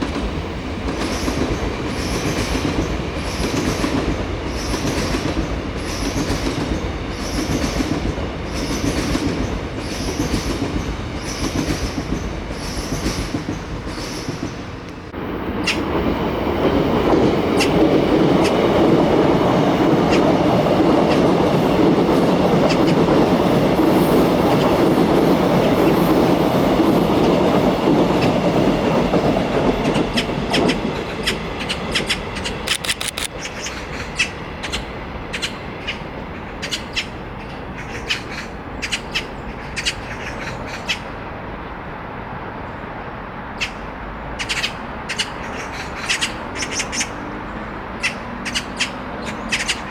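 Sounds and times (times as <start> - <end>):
sharp clicks of train wheels: 0.0 - 41.1, 43.6 - 49.9
electric train rumbling on rails: 0.0 - 49.9.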